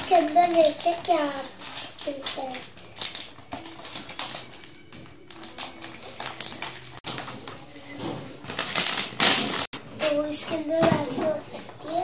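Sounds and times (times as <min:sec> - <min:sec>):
plastic wrap crinkling: 0:00.0 - 0:09.8.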